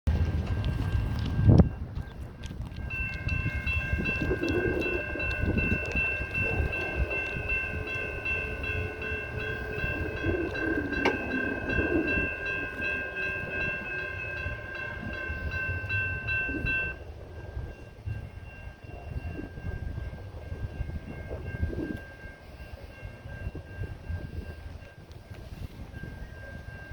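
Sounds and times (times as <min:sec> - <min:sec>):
crossing warning bells ringing: 0:00.1 - 0:26.9
train rumbling: 0:00.1 - 0:26.9.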